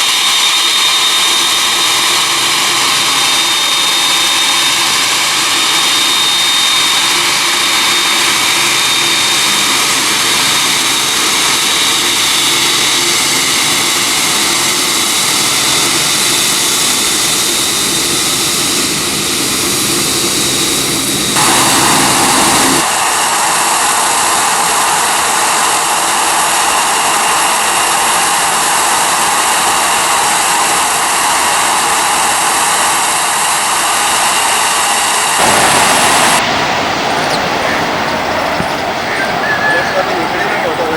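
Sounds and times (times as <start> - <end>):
jet airliner engines running: 0.0 - 40.9.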